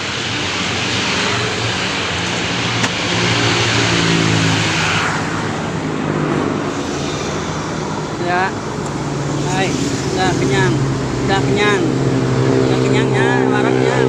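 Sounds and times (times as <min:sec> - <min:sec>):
vehicle passing close by: 0:00.0 - 0:14.0.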